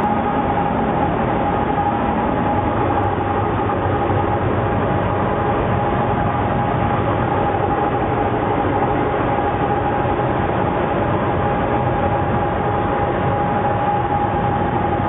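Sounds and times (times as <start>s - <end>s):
diesel locomotive running: 0.0s - 15.0s.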